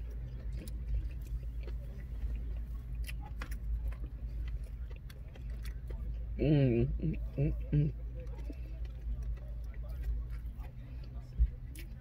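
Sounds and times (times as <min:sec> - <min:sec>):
chewing and wet mouth clicks: 0:00.0 - 0:06.4, 0:07.2 - 0:12.0
low car cabin hum: 0:00.0 - 0:12.0.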